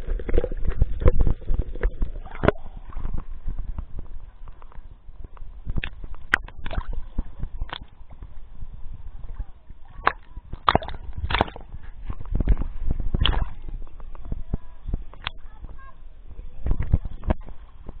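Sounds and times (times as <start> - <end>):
sea water splashing: 0.0 - 15.6
low rumbling bumps: 0.0 - 18.0.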